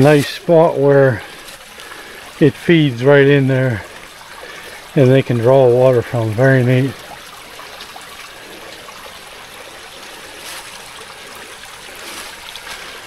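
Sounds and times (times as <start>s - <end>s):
stream trickling: 0.0s - 13.0s.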